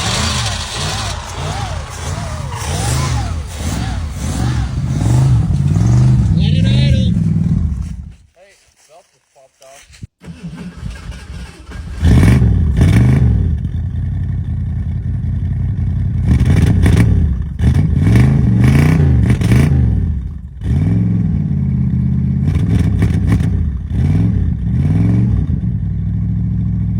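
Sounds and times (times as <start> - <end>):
car engine sputtering and revving: 0.0 - 8.2, 9.9 - 26.9.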